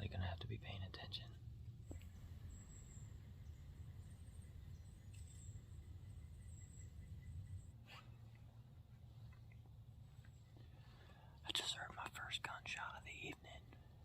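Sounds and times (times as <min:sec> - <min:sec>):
faint low rumble: 0:00.0 - 0:14.0.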